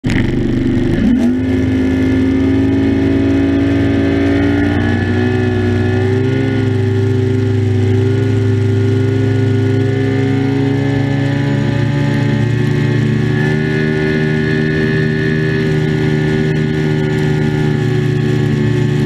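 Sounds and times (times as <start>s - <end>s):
outboard motor running hard: 0.0s - 19.0s.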